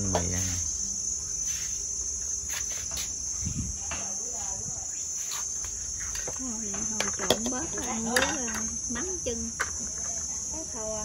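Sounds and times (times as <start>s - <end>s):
cicadas calling: 0.0s - 11.0s.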